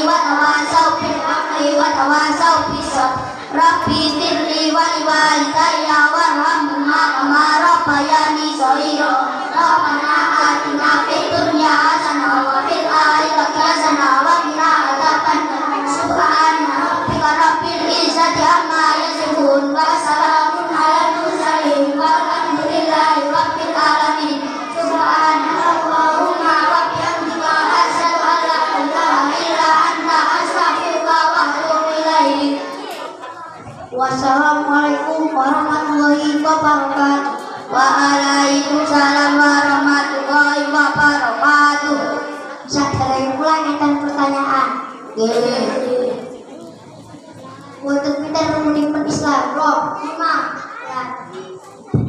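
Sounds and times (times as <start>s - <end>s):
children singing through microphones: 0.0s - 52.0s.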